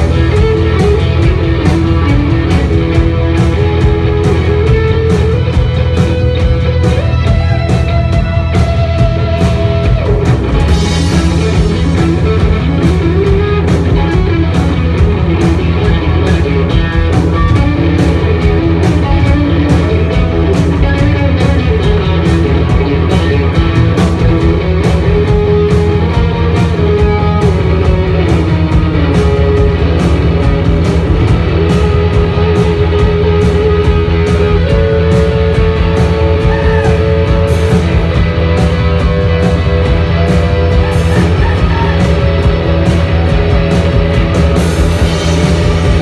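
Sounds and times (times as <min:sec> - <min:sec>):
drum beat: 0:00.0 - 0:46.0
electric guitar lead: 0:00.0 - 0:46.0.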